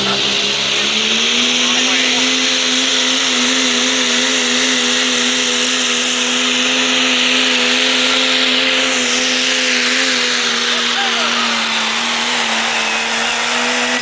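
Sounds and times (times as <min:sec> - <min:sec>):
diesel engine at full throttle: 0:00.0 - 0:14.0
exhaust and turbo hiss: 0:00.0 - 0:14.0.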